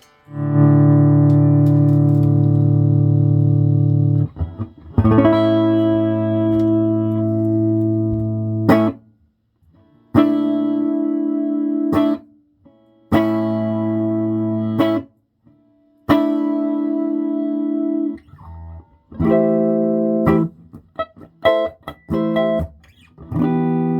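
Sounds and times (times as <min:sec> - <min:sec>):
electric guitar chords: 0:00.0 - 0:09.1, 0:09.7 - 0:15.0, 0:16.1 - 0:23.9.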